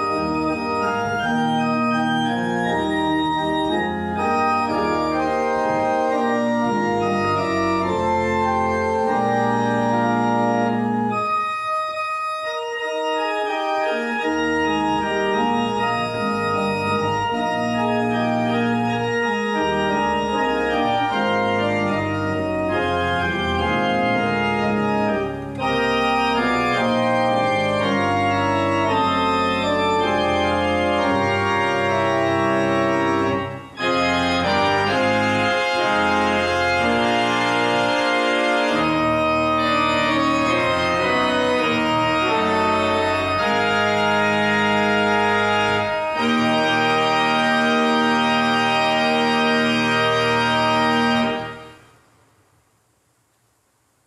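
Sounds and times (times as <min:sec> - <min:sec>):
church organ chords: 0:00.0 - 0:52.0.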